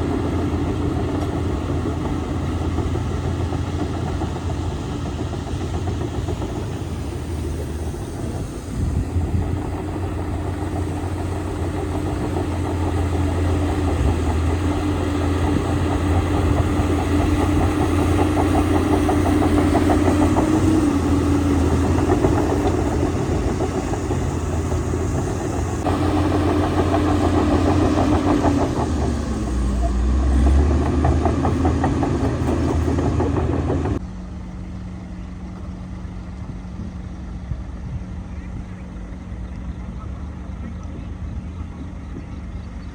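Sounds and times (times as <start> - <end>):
bulldozer diesel engine under load: 0.0 - 42.9.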